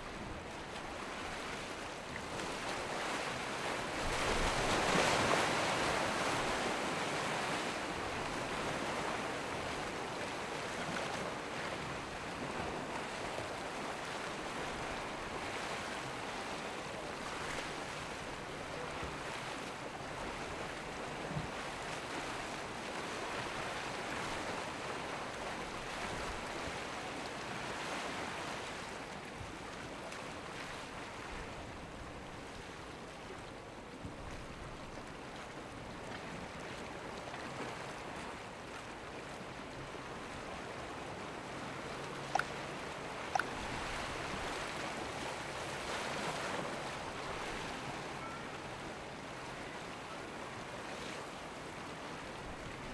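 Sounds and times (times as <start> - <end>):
waves breaking and splashing: 0.0 - 52.9.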